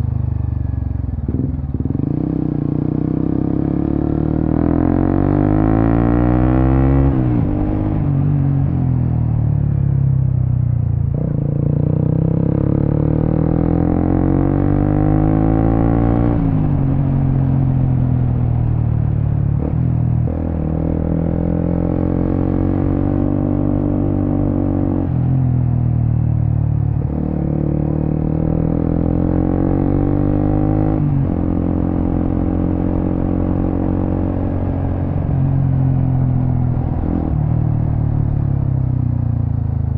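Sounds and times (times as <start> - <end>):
motorcycle engine revving: 1.2 - 9.8, 11.1 - 39.9.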